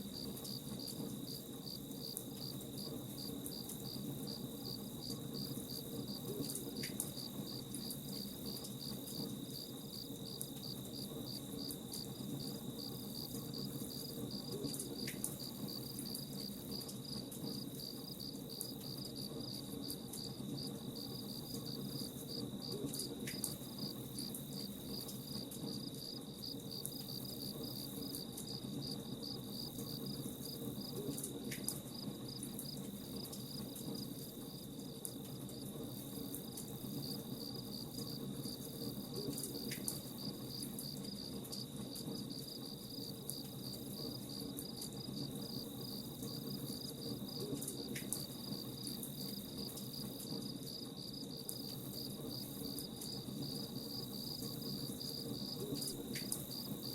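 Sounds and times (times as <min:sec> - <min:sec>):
crickets chirping: 0:00.0 - 0:56.9
faint campfire crackle: 0:00.0 - 0:56.9.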